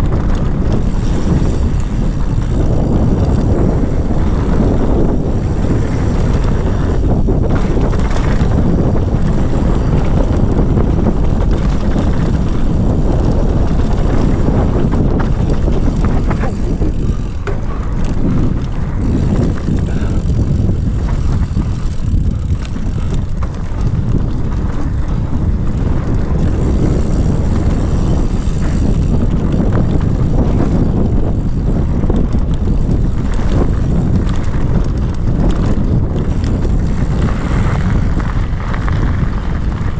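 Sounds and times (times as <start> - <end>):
bike rattling over bumps: 0.0 - 39.9
tyres rolling on dirt: 0.0 - 39.9
wind buffeting microphone: 0.0 - 39.9.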